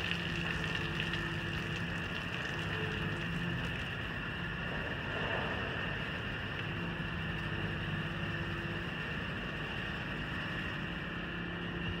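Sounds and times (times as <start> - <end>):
machine humming and whining: 0.0 - 12.0.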